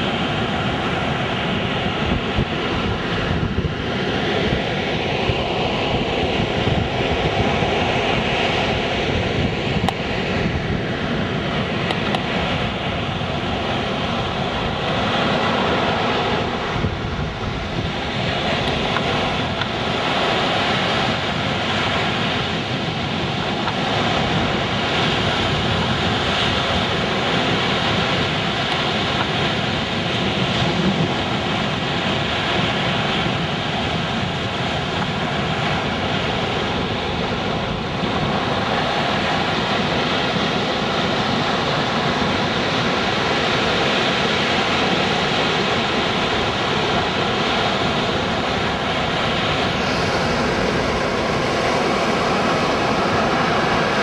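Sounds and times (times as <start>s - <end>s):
waves breaking on beach: 0.0s - 54.0s
wind buffeting microphone: 0.0s - 54.0s.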